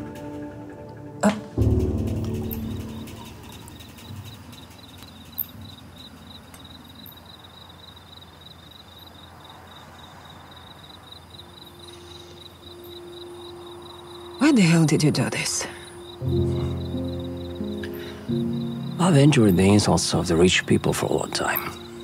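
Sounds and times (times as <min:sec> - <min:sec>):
crickets chirping: 0:01.6 - 0:22.0.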